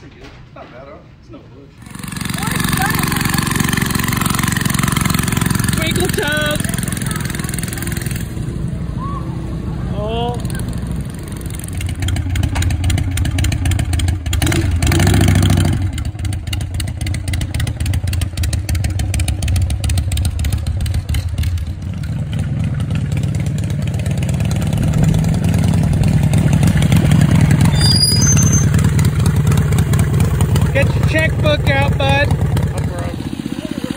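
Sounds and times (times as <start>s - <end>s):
motorcycle engine revving: 1.8s - 33.9s.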